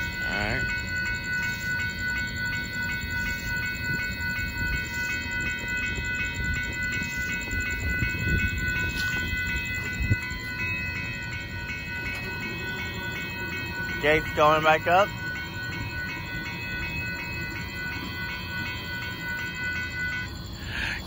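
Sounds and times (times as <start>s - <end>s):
crossing bell ringing: 0.0s - 21.0s
freight train wheels rumbling on rail: 0.0s - 21.0s.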